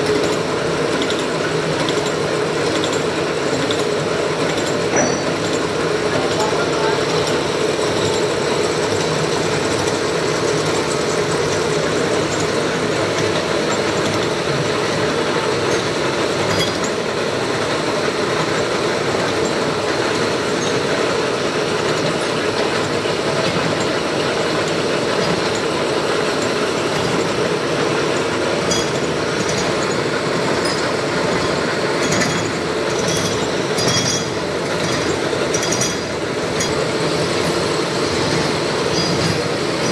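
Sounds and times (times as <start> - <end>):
thread-cutting machine running: 0.0 - 39.9.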